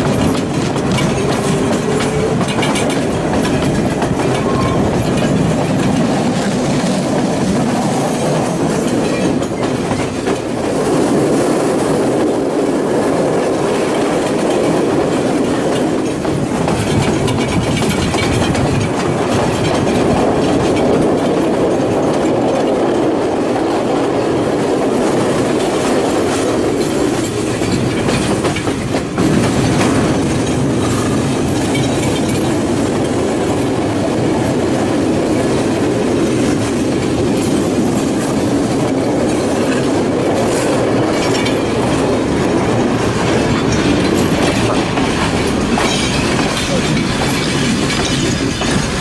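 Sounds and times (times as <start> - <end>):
train wheel clicks: 0.0 - 49.0
train wheels rumbling on rails: 0.0 - 49.0.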